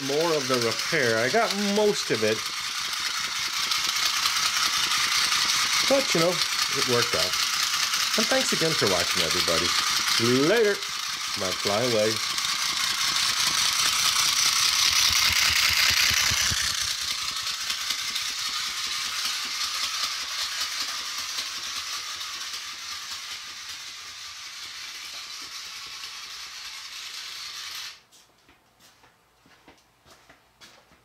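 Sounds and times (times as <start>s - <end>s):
toy motor and gears whirring: 0.0s - 28.1s.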